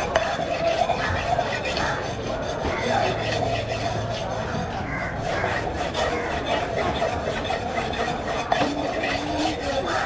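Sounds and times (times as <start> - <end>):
knife rasping on sharpening stone: 0.0 - 10.0.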